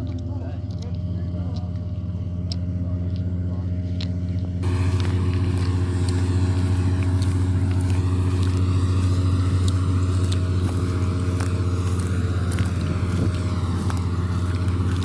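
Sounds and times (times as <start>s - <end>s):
combine harvester engine hum: 0.0s - 15.0s
faint ticks and crackles: 0.0s - 15.0s.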